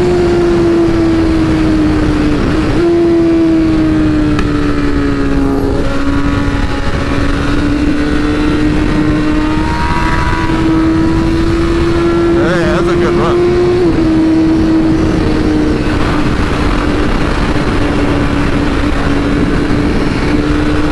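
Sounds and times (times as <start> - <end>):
motorcycle engine running: 0.0 - 20.9
wind rushing across microphone: 0.0 - 20.9.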